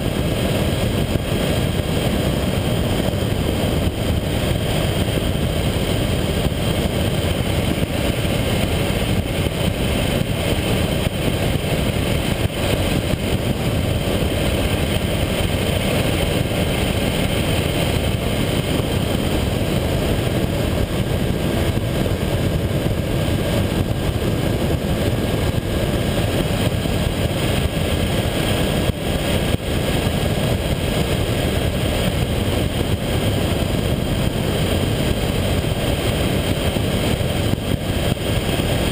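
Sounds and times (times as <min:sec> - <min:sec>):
wind rush: 0:00.0 - 0:38.9.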